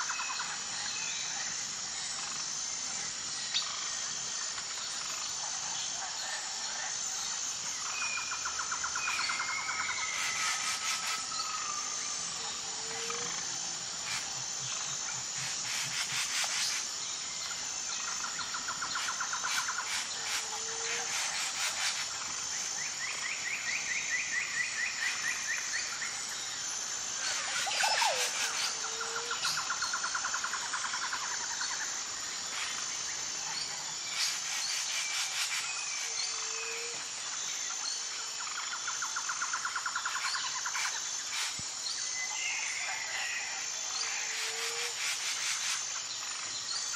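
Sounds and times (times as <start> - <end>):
high insect chirr: 0.0 - 46.9.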